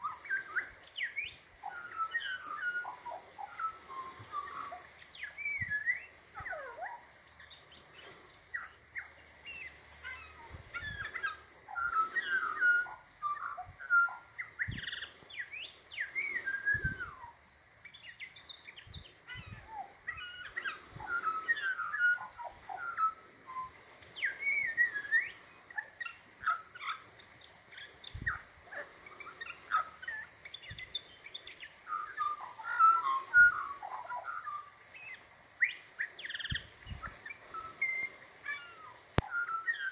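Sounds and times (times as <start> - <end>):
magpie warbling song: 0.0 - 39.9.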